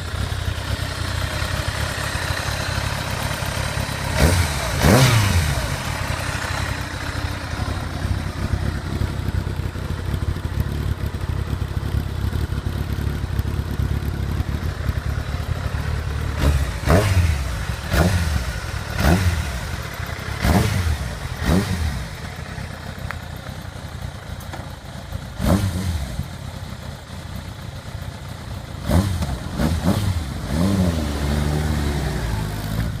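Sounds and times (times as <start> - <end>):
motorcycle engine idling: 0.0 - 30.8.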